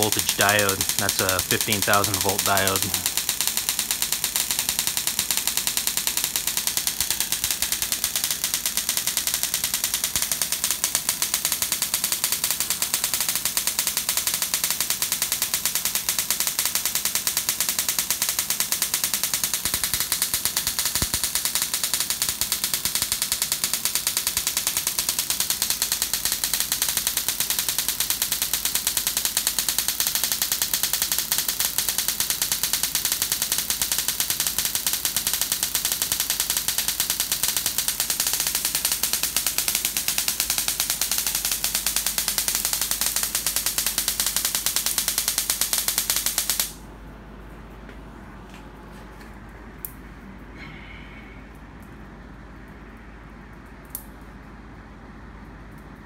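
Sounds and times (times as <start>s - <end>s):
high-voltage spark gaps crackling: 0.0s - 46.8s.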